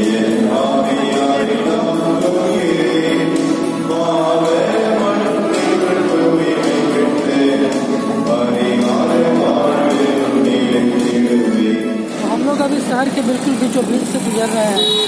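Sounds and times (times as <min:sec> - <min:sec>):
choir singing a hymn: 0:00.0 - 0:12.2.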